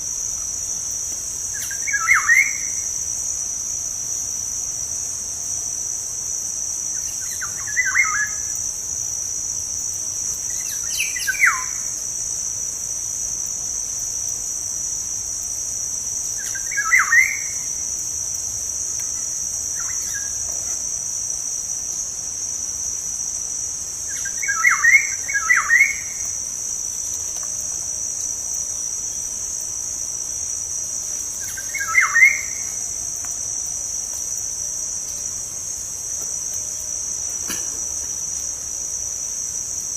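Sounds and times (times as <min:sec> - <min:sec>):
high-pitched insect drone: 0:06.6 - 0:39.9.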